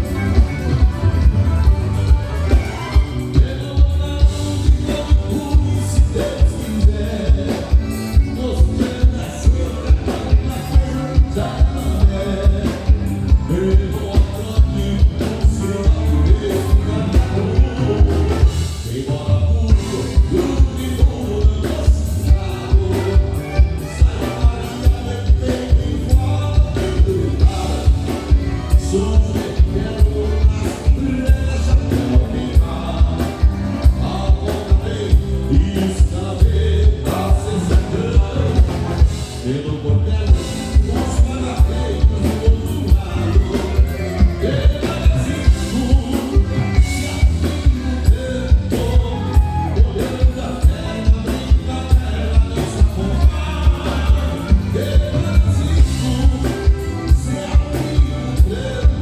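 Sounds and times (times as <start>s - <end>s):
live band music with singing: 0.0s - 59.0s.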